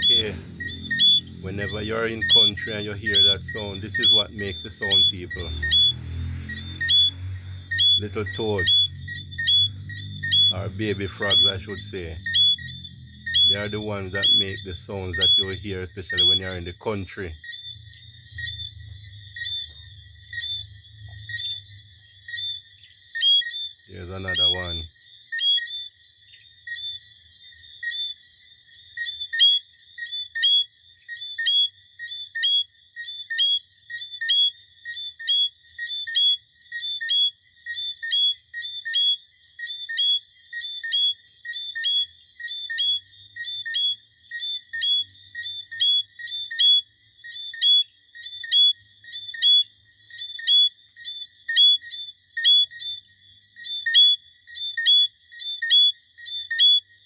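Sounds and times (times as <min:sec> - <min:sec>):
frogs peeping: 0:00.0 - 0:57.0.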